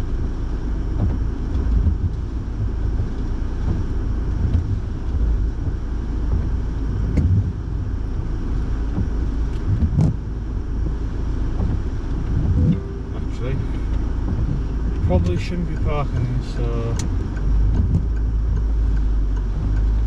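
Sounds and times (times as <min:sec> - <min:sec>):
car engine rumble in cabin: 0:00.0 - 0:20.0.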